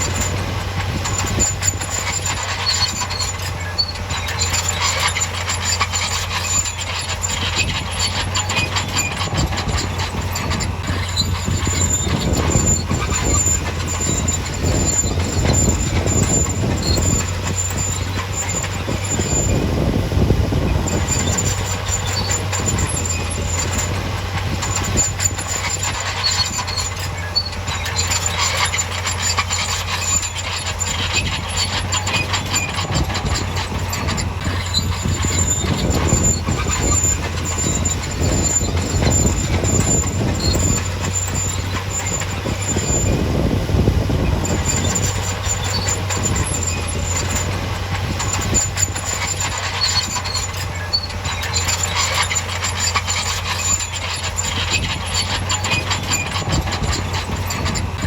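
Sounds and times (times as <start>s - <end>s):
diesel engine running: 0.0s - 58.0s
metallic clanking and rattling: 0.0s - 58.0s
thin high squeal: 0.0s - 58.0s.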